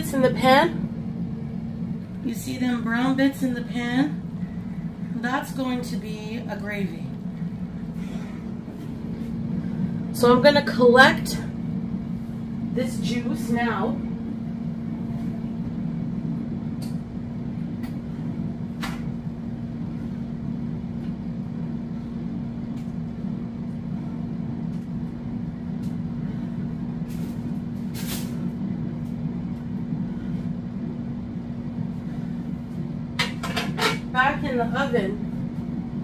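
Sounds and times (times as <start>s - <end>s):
air fryer fan hum: 0.0s - 36.0s.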